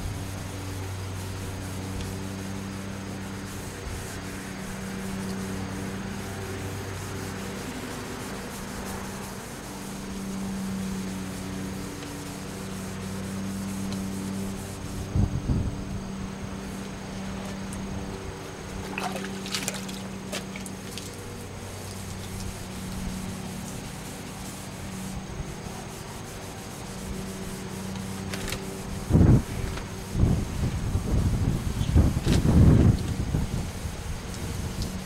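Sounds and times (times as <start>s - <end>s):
sandpaper rubbing wet paint: 0.0s - 35.0s
steady low hum: 0.0s - 35.0s.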